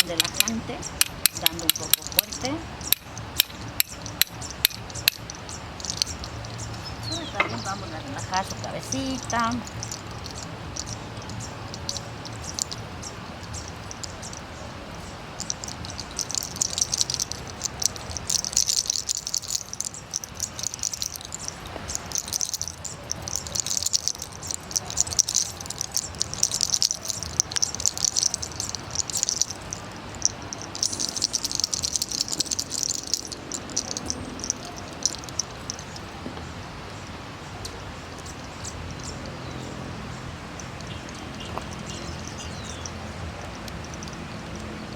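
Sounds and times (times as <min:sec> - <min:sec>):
background hiss: 0:00.0 - 0:44.9.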